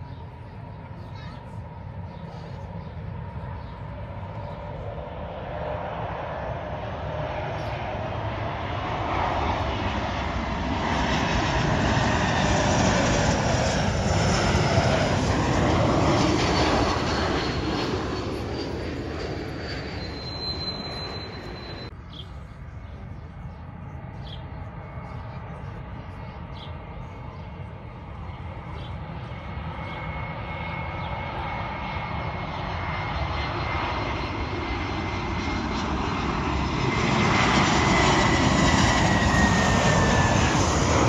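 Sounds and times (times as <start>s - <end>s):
jet airliner passing overhead: 0.0s - 41.0s.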